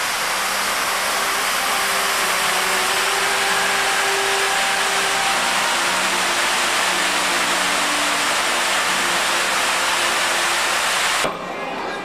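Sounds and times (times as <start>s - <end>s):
fountain water cascading: 0.0s - 11.5s.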